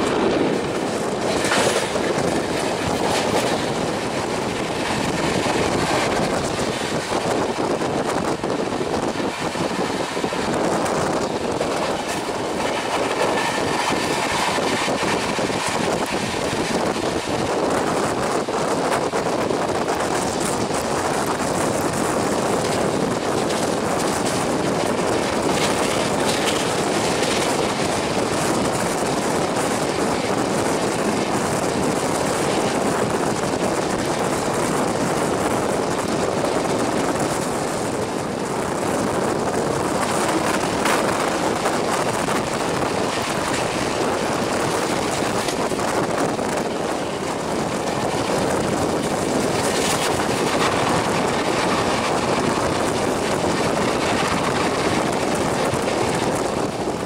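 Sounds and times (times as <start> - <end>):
train wheel and rail noise: 0.0 - 57.0
wind rushing on microphone: 0.0 - 57.0.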